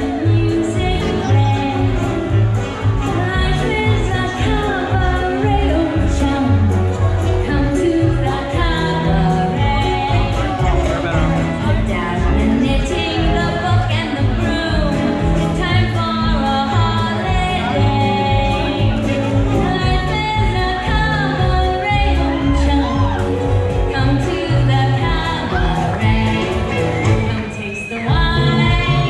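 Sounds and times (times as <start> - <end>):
cabaret style song with band: 0.0 - 29.0
person singing: 0.0 - 29.0.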